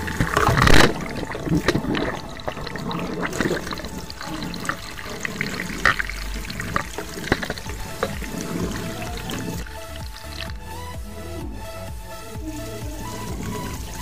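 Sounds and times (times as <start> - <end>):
tap water running into basin: 0.0 - 11.1, 12.1 - 14.0
water splashing on plastic: 0.0 - 14.0.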